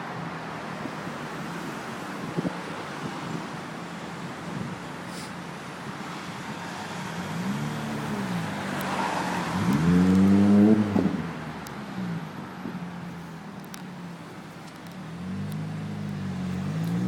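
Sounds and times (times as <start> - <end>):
car exhaust idling and revving: 2.2 - 17.0.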